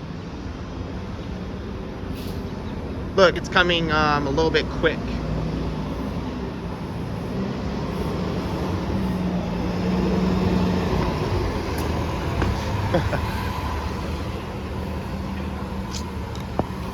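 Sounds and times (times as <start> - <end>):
bus engine passing: 0.0 - 16.9
traffic rumble: 0.0 - 16.9.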